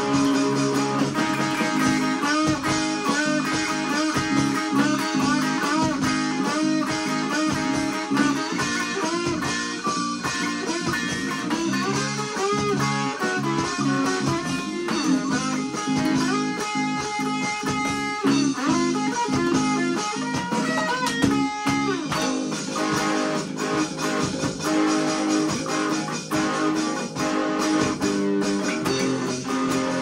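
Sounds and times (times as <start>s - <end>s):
band music with electric guitar: 0.0s - 30.0s.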